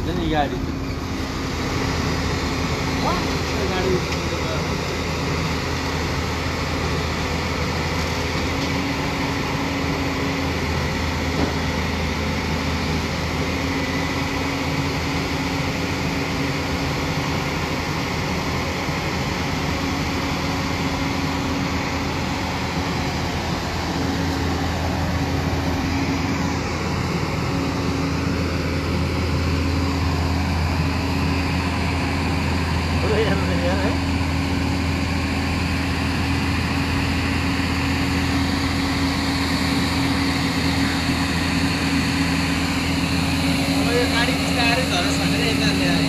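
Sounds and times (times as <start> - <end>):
excavator diesel engine humming: 0.0 - 46.0.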